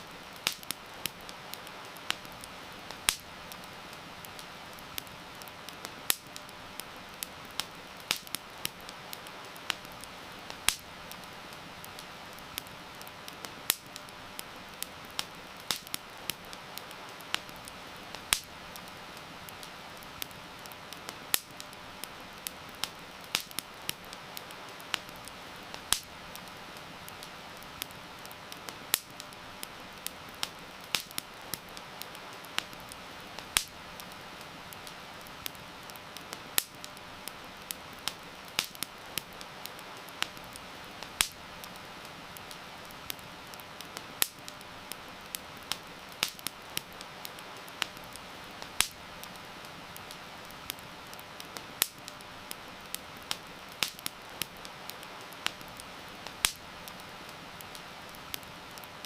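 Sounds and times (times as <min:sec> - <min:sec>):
heavy rain hiss: 0:00.0 - 0:59.0
wood fire crackling and popping: 0:00.0 - 0:59.0.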